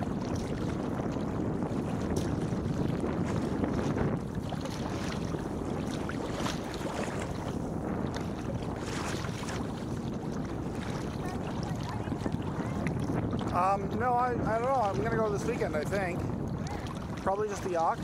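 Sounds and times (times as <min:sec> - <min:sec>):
choppy water against hull: 0:00.0 - 0:18.0
paddle splashes: 0:00.0 - 0:18.0
wind buffeting microphone: 0:00.0 - 0:18.0.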